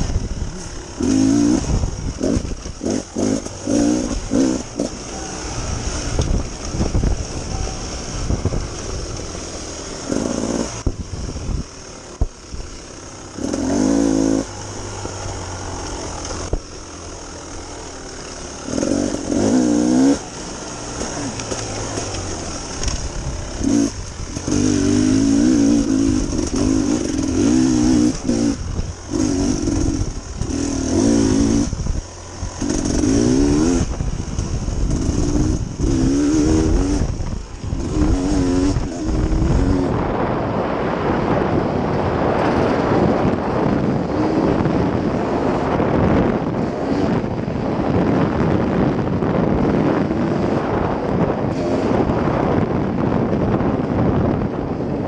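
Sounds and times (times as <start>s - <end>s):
dirt bike engine revving: 0.0s - 53.7s
steady rushing noise: 0.0s - 55.0s.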